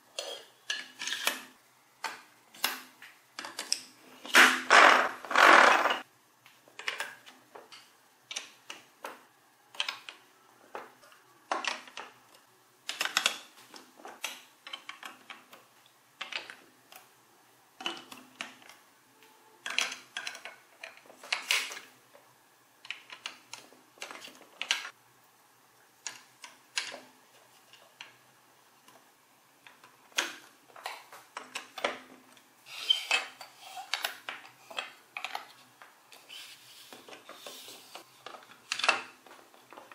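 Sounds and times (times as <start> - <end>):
plastic blocks clicking and clattering: 0.1 - 17.1, 17.8 - 18.9, 19.6 - 22.0, 22.8 - 25.0, 26.0 - 39.9.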